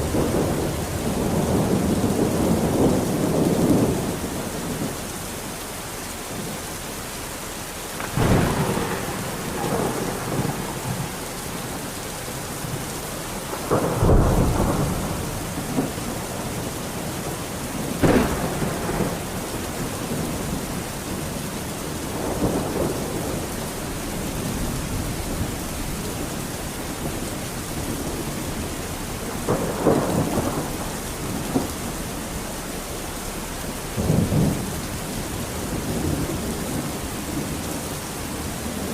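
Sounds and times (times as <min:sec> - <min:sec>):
thunder cracking and rumbling: 0:00.0 - 0:05.0, 0:07.9 - 0:38.9
rain pouring: 0:00.0 - 0:38.9.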